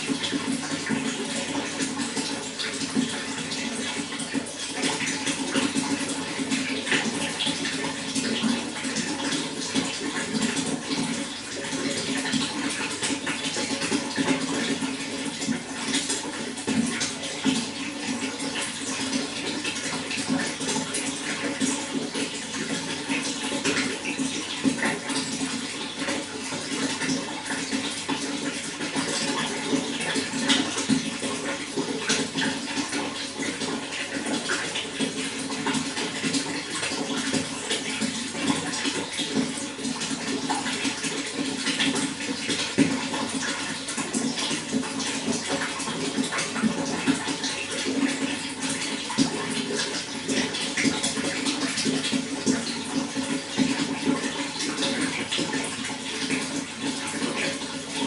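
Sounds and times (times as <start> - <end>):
running water splashing: 0.0 - 58.0.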